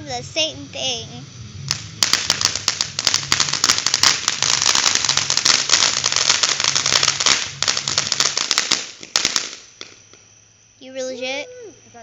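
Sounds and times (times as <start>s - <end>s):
fireworks crackling: 0.0s - 10.3s.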